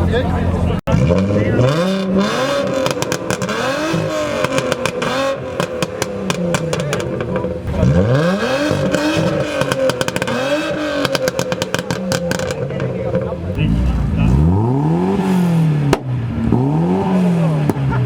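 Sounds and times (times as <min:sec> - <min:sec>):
car engine revving with crackles: 0:00.0 - 0:18.0.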